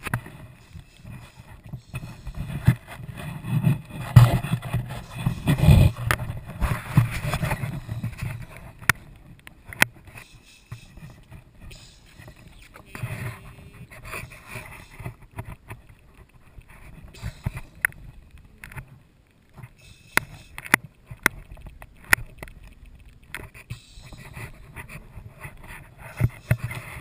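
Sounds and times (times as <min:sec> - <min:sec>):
sharp clicks and knocks: 0:00.0 - 0:27.0.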